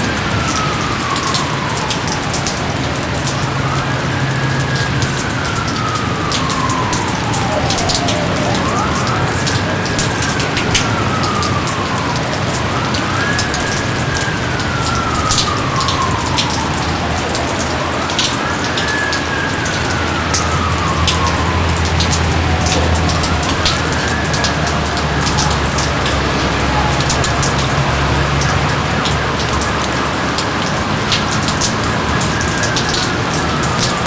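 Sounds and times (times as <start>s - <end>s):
heavy rain falling: 0.0s - 34.0s
drips splatting on surfaces: 0.1s - 34.0s.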